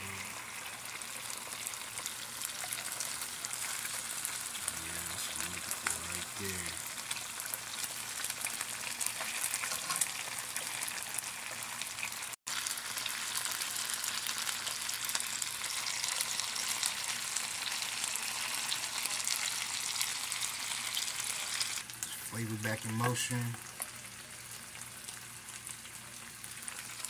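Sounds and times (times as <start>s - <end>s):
chicken sizzling in a skillet: 0.0s - 27.0s.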